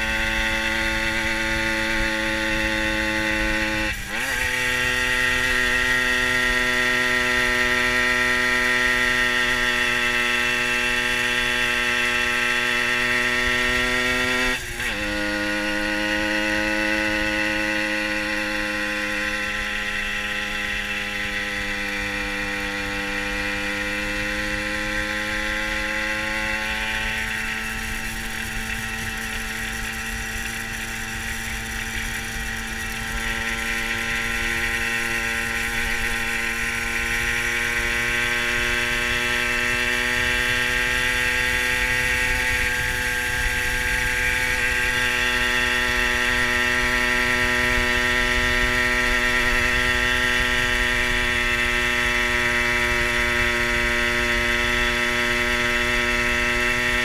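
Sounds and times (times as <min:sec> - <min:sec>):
two-stroke moped running: 0:00.0 - 0:57.0.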